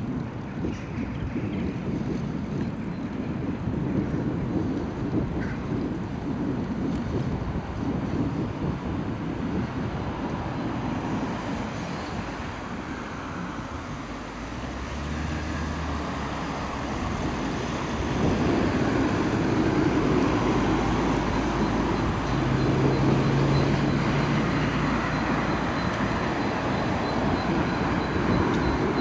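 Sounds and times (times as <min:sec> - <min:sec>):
bicycle tyres rumbling on pavement: 0:00.0 - 0:29.0
wind on microphone: 0:00.0 - 0:29.0.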